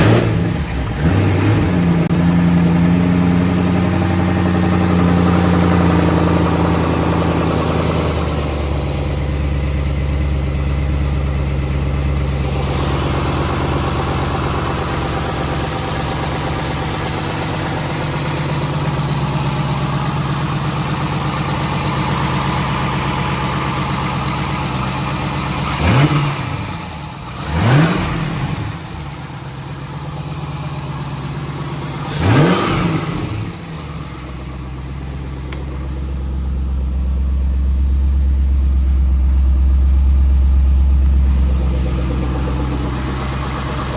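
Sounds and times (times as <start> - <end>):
car engine idling: 0.0 - 43.9
car engine starting: 0.0 - 43.9
engine throttle blips: 0.0 - 43.9.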